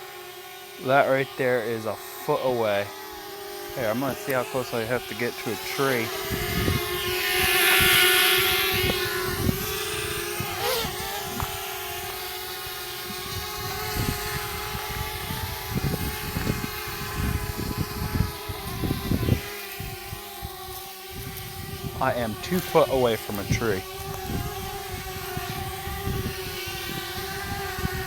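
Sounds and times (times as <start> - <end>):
drone propellers buzzing: 0.0 - 28.0.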